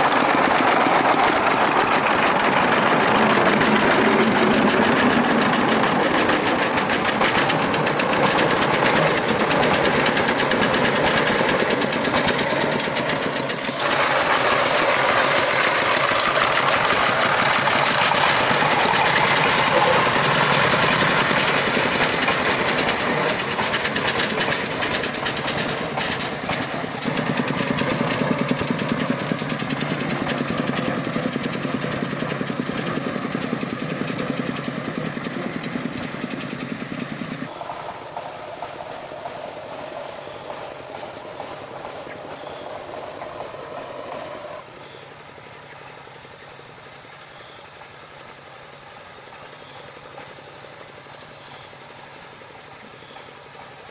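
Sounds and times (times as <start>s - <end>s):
truck engine knocking: 0.0s - 44.6s.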